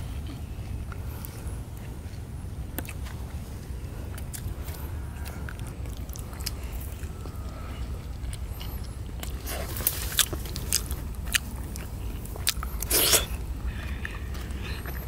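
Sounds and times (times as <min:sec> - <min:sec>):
people chewing wet mouth clicks: 0:00.1 - 0:15.0.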